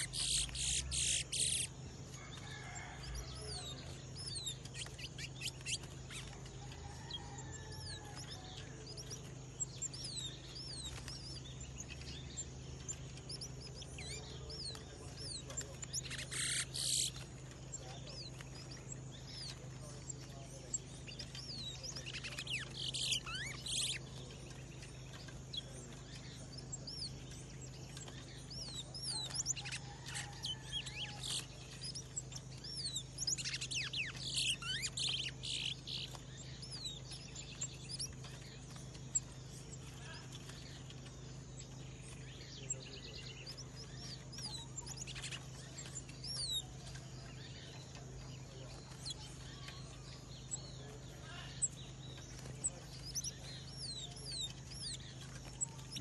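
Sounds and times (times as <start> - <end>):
finches chirping: 0.0 - 56.0.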